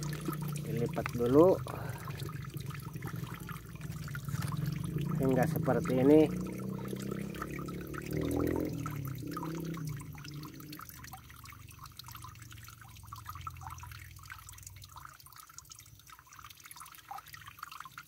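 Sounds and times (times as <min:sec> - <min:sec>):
water trickling onto leaf: 0:00.0 - 0:18.0.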